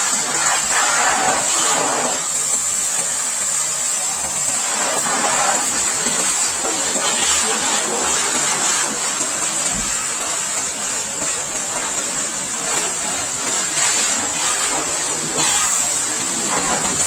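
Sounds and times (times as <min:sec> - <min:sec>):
pressure washer spray hiss: 0:00.0 - 0:17.0.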